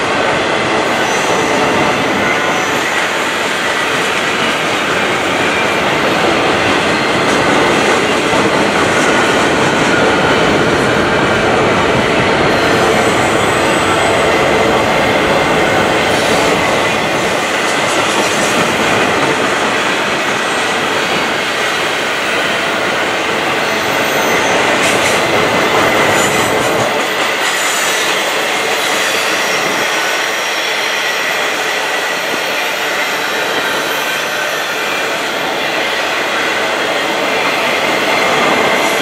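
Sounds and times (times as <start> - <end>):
freight train rolling: 0.0 - 39.0.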